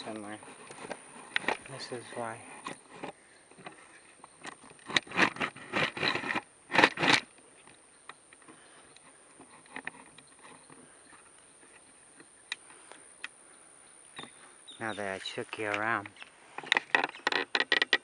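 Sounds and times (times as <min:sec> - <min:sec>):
tripod clicks and rattles: 0:00.0 - 0:13.4, 0:15.6 - 0:18.0.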